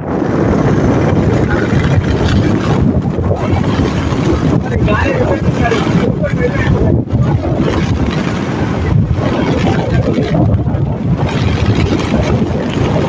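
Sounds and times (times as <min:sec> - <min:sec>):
gusty wind buffeting microphone: 0:00.0 - 0:13.0
heavy surf: 0:00.0 - 0:13.0.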